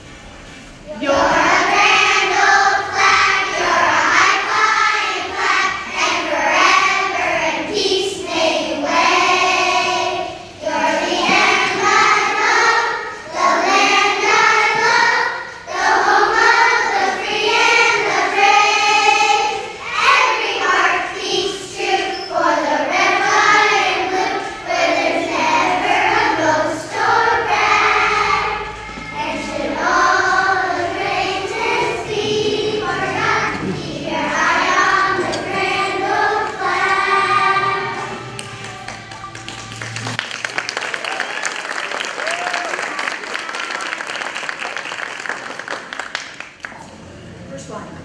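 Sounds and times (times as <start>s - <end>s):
children's choir singing: 0.0s - 46.6s.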